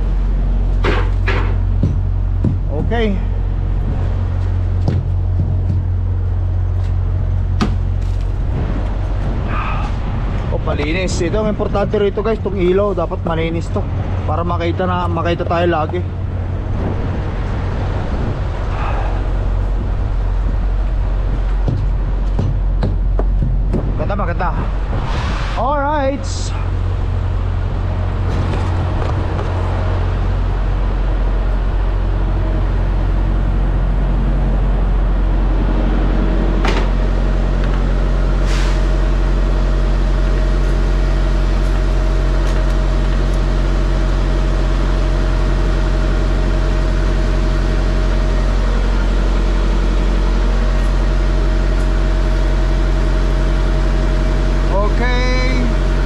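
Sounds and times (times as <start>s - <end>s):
diesel engine idling: 0.0s - 25.0s, 25.6s - 56.0s.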